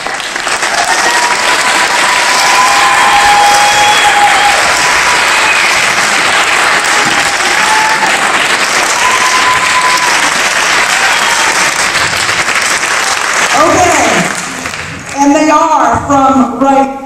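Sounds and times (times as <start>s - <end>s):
audience applause: 0.0s - 15.2s.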